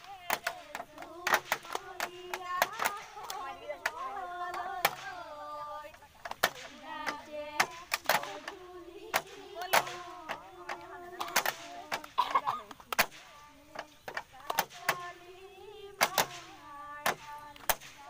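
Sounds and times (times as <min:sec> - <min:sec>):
hands clapping: 0:00.0 - 0:05.2, 0:06.0 - 0:15.2, 0:16.0 - 0:18.0
women singing: 0:00.0 - 0:18.0.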